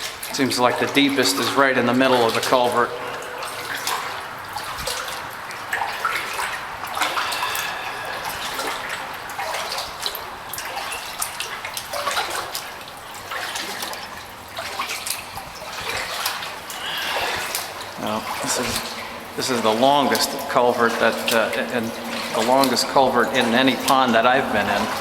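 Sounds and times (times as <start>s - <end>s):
kayak paddle splashing water: 0.0s - 25.0s.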